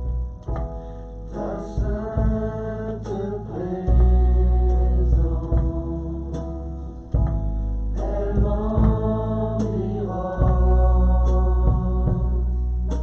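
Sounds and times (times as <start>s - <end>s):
deep bass: 0.0s - 13.0s
soft beat: 0.1s - 3.2s, 3.8s - 13.0s.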